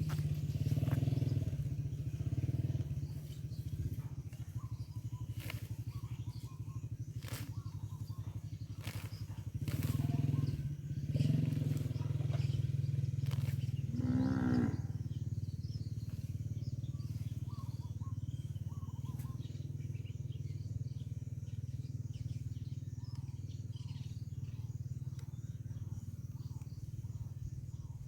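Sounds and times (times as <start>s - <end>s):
faint bird chirps: 0.0s - 28.0s
steady low hum: 0.0s - 28.0s.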